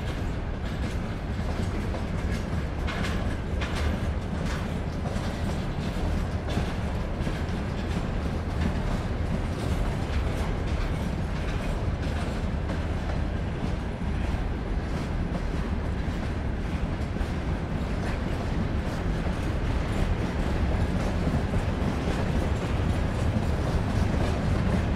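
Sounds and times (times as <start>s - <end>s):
freight train rumbling: 0.0s - 24.9s
wheels clattering on rails: 0.0s - 24.9s.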